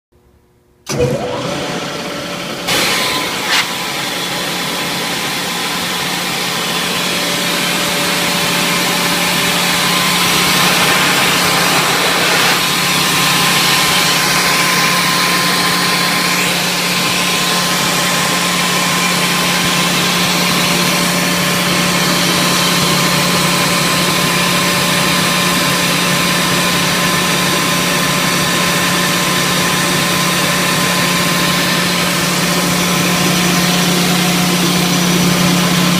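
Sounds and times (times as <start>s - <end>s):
air compressor humming and hissing: 0.9s - 35.9s.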